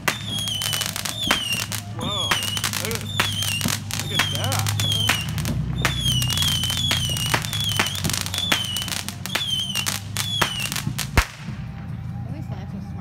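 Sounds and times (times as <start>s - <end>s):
falling firework whistle: 0.0s - 11.6s
loud firework bang: 0.0s - 11.7s
fireworks crackling pops: 0.0s - 11.9s.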